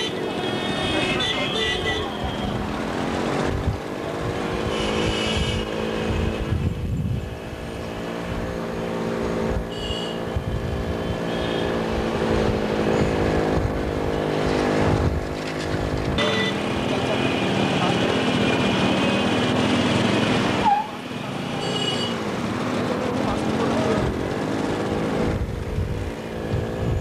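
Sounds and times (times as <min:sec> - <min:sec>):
motorcycle engines running: 0:00.0 - 0:27.0.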